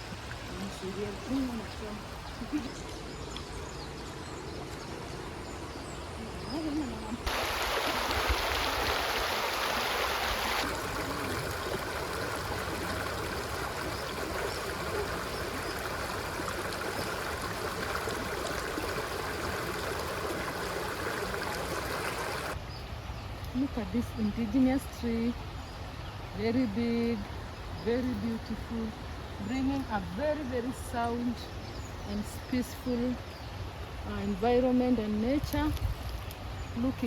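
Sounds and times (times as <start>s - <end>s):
river water flowing: 0.0s - 35.5s.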